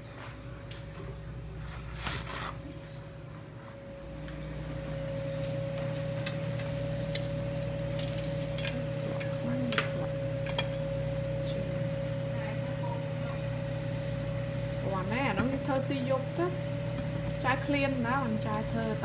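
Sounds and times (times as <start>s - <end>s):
constant tonal hum: 0.0s - 19.0s.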